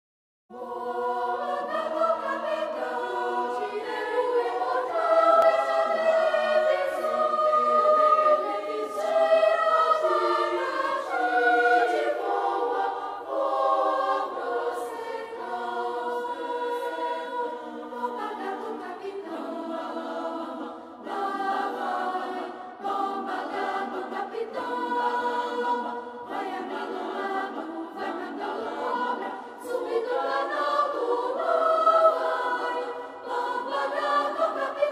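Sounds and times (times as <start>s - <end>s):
children's choir singing: 0.5s - 34.9s.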